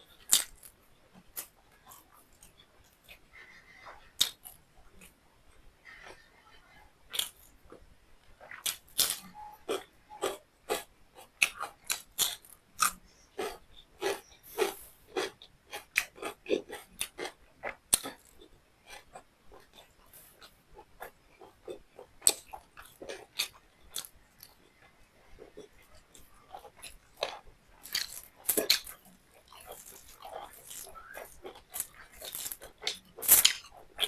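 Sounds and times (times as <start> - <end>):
person chewing with mouth clicks: 0.1 - 3.3, 3.9 - 5.2, 7.1 - 7.8, 8.4 - 34.0.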